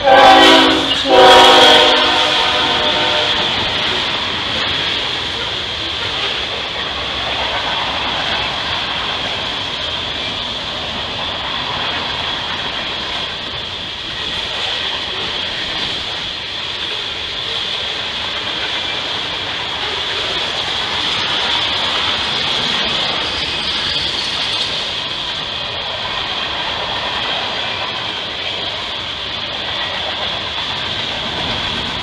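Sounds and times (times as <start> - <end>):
steel wheels rumbling on rail: 0.0 - 32.0.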